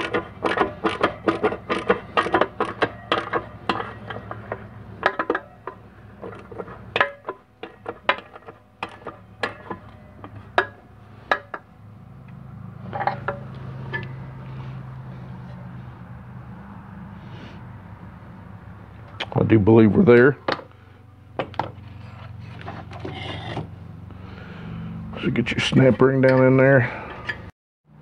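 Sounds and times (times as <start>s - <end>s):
low steady hum: 0.0s - 27.4s.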